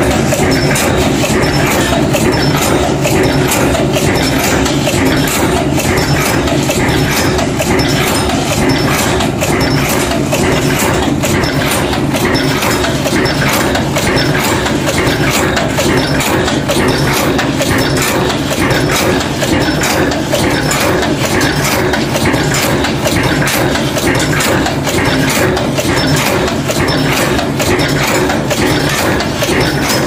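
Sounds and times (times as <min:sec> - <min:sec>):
mechanical strokes clattering: 0:00.0 - 0:30.0
motor hum: 0:00.0 - 0:30.0.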